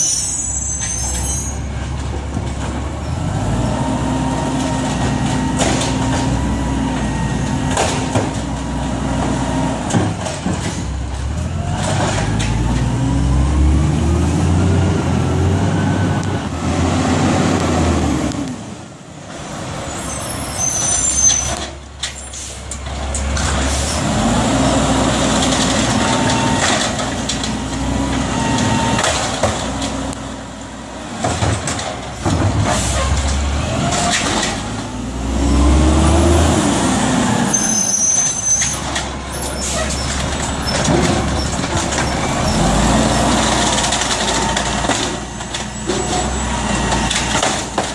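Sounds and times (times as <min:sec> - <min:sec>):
diesel engine revving: 0:02.6 - 0:21.7, 0:22.5 - 0:31.2, 0:32.1 - 0:47.9.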